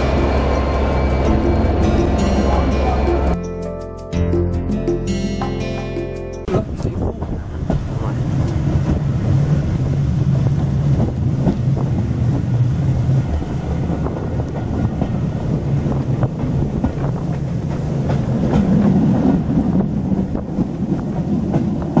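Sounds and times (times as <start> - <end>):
train wheels rumbling on track: 0.0 - 3.4, 6.5 - 22.0.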